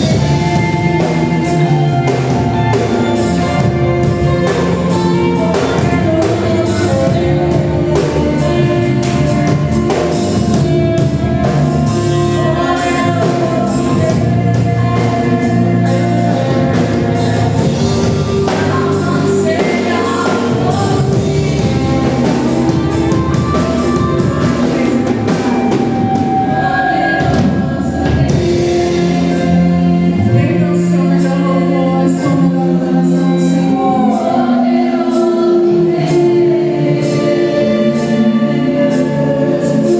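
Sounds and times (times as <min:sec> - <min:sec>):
gospel band playing praise song: 0:00.0 - 0:39.9.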